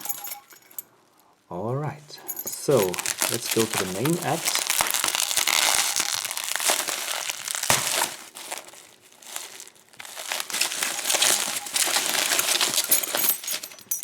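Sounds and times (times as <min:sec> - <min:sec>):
packaging crinkling: 0:02.5 - 0:14.0.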